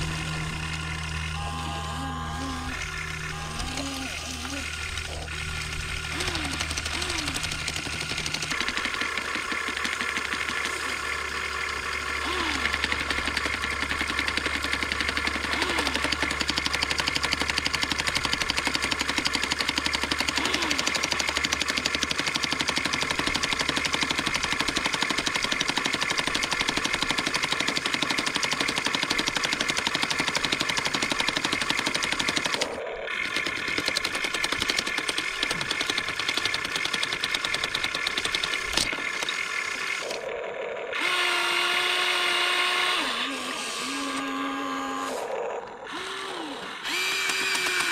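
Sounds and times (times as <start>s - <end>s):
small motors whining: 0.0s - 47.9s.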